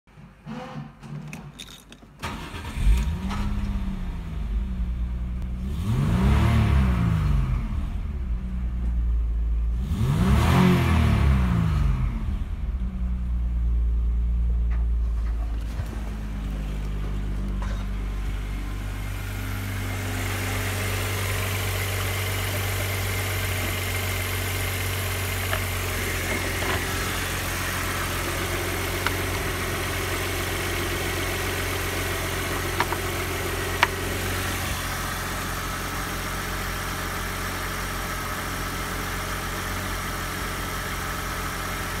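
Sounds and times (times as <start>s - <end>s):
car engine revving and idling: 2.2s - 42.0s.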